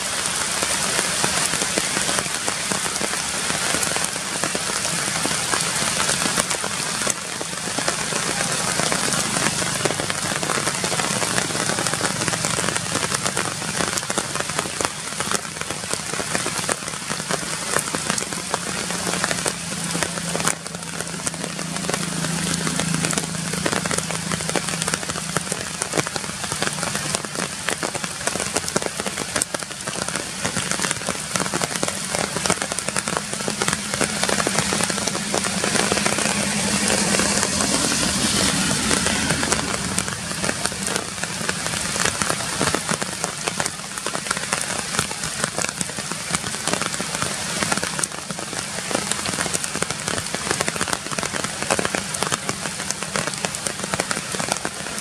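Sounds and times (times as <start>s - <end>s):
rain on leaves: 0.0s - 55.0s.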